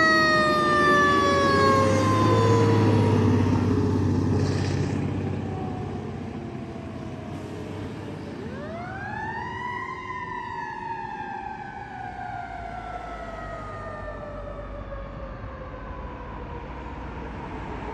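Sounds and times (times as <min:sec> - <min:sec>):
truck engine noise: 0:00.0 - 0:17.9.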